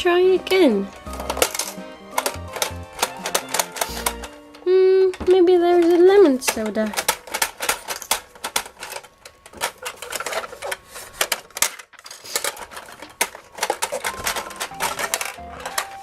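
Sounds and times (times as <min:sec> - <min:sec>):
vending machine plastic clicks: 0:00.5 - 0:16.0.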